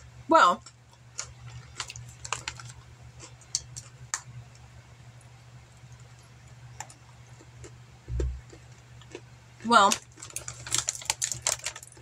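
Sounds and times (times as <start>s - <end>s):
faint low hum: 0.0s - 12.0s
person chewing crunchy pretzels: 0.6s - 4.7s, 5.7s - 12.0s.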